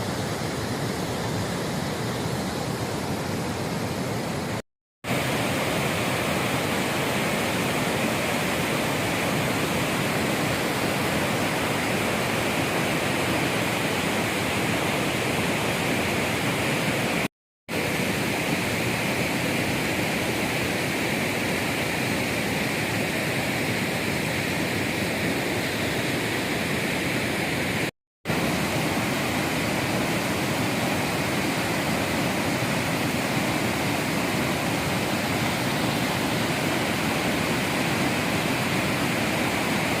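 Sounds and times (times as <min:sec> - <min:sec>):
fast-flowing water rushing: 0:00.0 - 0:40.0.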